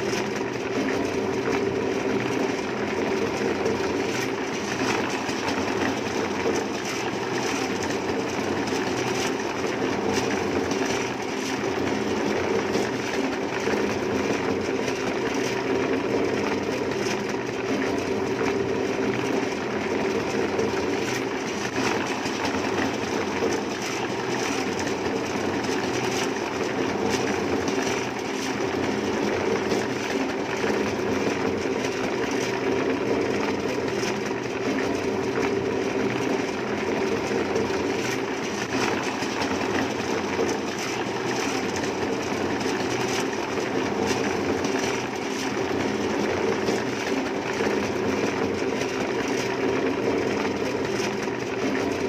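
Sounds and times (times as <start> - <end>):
machine rattling: 0.0 - 52.0.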